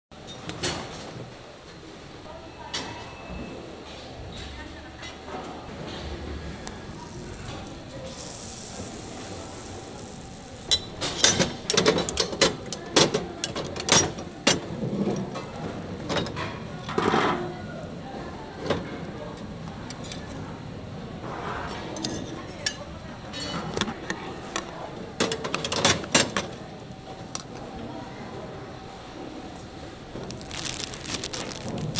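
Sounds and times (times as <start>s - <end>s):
low background noise: 0.2s - 31.9s.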